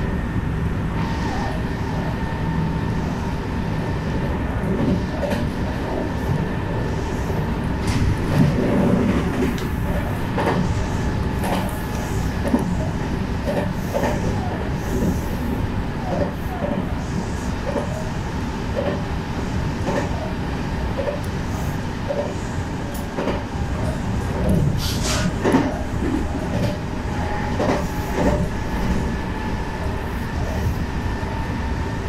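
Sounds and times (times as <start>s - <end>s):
electric train rumbling: 0.0s - 32.0s
oncoming train rushing past: 0.0s - 32.0s.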